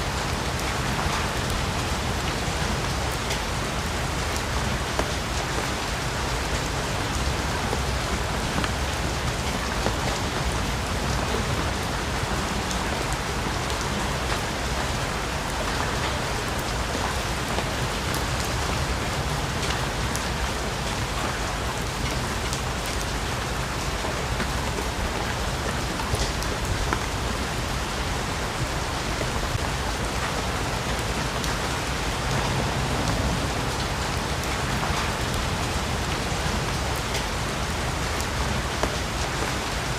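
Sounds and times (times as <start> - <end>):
heavy rain on foliage: 0.0 - 39.9
individual raindrops: 0.0 - 39.9.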